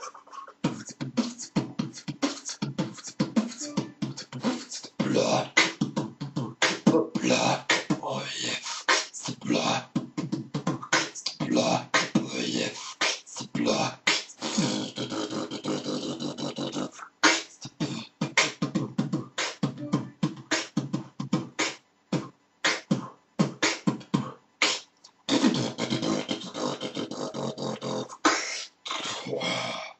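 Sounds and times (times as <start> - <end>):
man beatboxing: 0.0 - 29.9.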